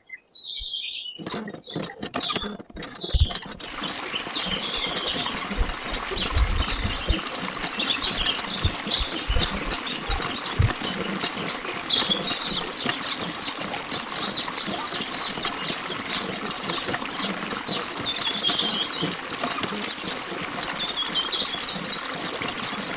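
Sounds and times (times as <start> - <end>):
birds chirping: 0.0 - 22.9
small clicks: 1.2 - 22.9.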